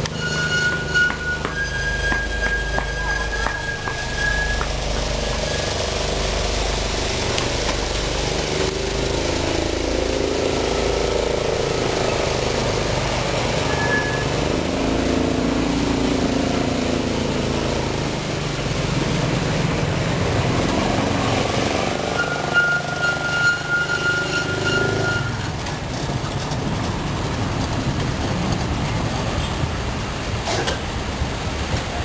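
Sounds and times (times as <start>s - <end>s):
trolley train wheels rumbling: 0.0s - 32.0s.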